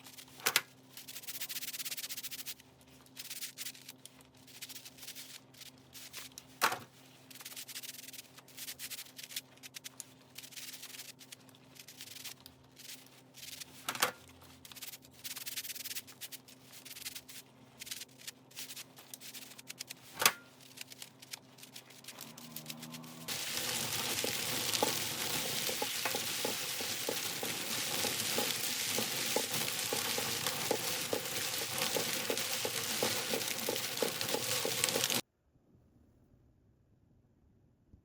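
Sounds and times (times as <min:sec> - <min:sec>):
rubbing and scraping strokes: 0:00.0 - 0:35.2.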